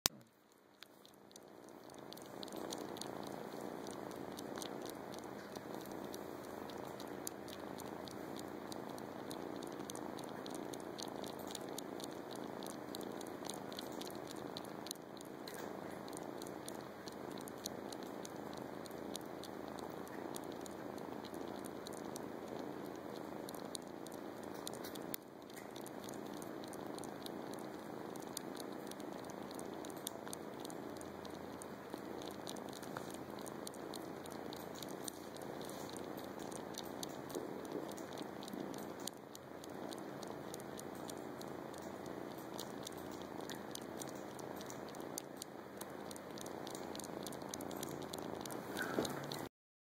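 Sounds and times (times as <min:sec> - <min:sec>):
kitten purring: 0:00.1 - 0:49.5
kitten sucking clicks: 0:00.1 - 0:49.5.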